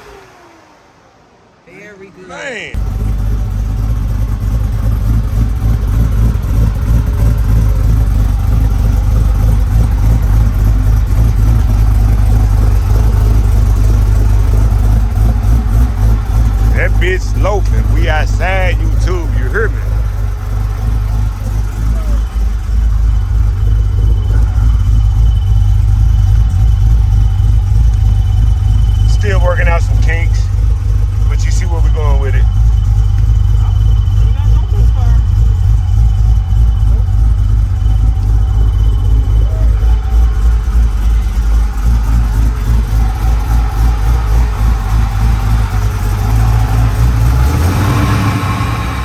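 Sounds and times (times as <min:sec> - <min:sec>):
choppy engine rumble: 0:00.0 - 0:49.0.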